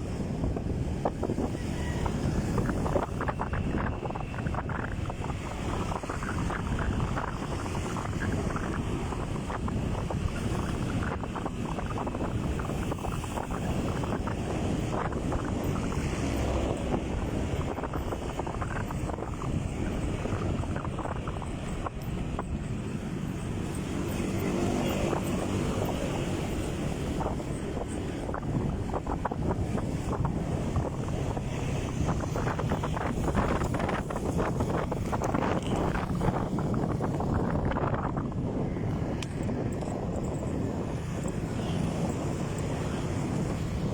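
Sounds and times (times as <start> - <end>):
motorcycle rumble: 0.0 - 43.9
wind buffeting microphone: 0.0 - 43.9.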